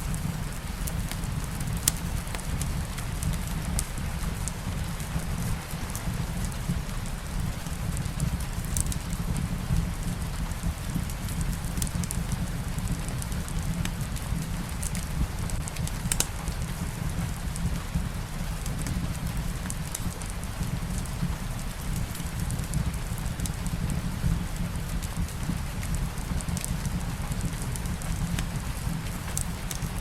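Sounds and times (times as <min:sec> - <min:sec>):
rain on a surface: 0:00.0 - 0:30.0
wood fire crackling: 0:00.0 - 0:30.0.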